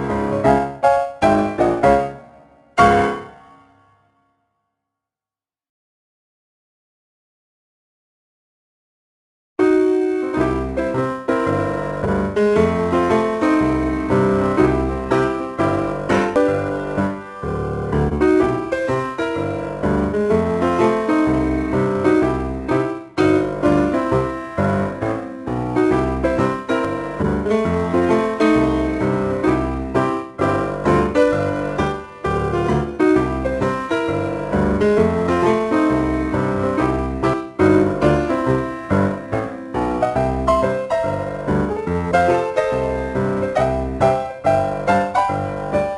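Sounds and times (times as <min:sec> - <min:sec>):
keyboard tune with bass line: 0:00.0 - 0:04.0, 0:09.6 - 0:45.9.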